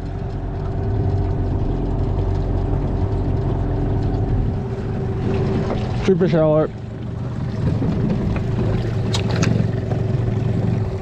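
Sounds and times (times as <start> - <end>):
boat motor running at low speed: 0.0 - 11.0.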